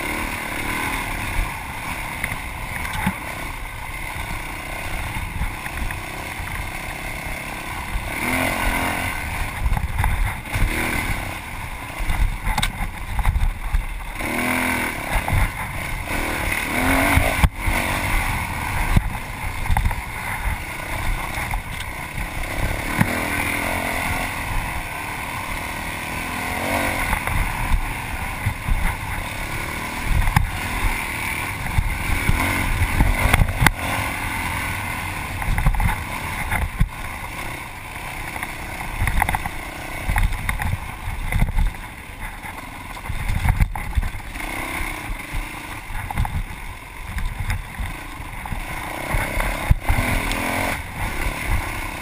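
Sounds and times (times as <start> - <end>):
dirt bike engine revving: 0.0 - 52.0
wind and ground rumble: 0.0 - 52.0.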